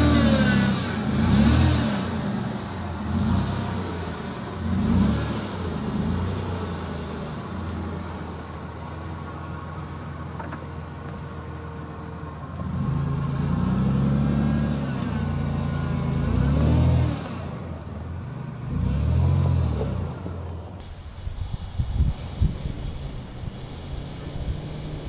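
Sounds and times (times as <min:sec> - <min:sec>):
car engine at low revs: 0:00.0 - 0:25.0.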